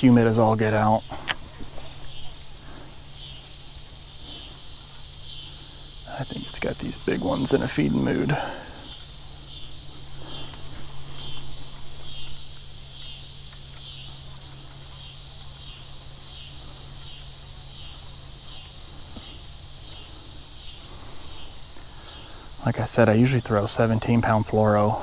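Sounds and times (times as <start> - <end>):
insects pulsing chorus: 0.0 - 25.0
steady low hum: 0.0 - 25.0.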